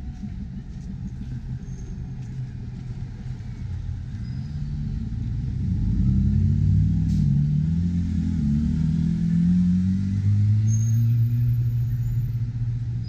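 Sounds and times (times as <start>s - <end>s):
motorcycle engine approaching: 0.0s - 10.6s
street traffic rumble: 0.0s - 13.0s.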